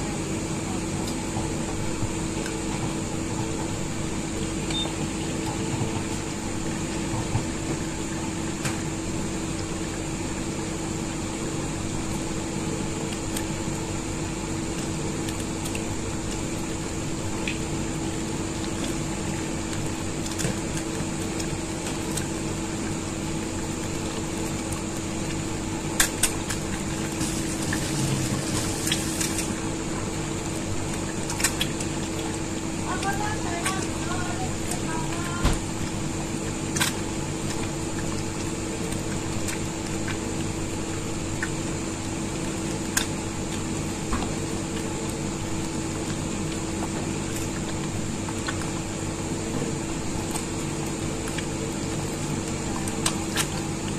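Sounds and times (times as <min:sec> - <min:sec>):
constant hum: 0:00.0 - 0:53.9.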